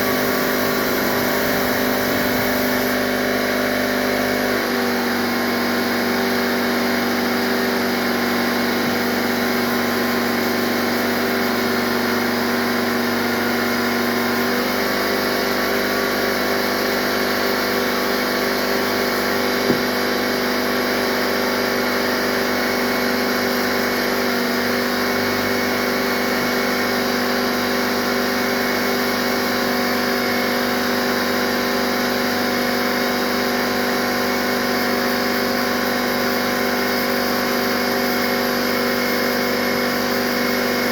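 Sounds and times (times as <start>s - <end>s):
air compressor hum: 0.0s - 40.9s.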